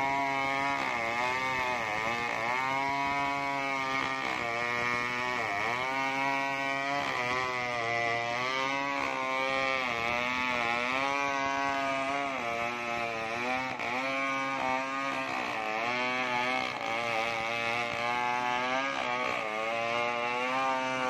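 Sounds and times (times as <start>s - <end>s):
chainsaw cutting log: 0.0s - 21.0s.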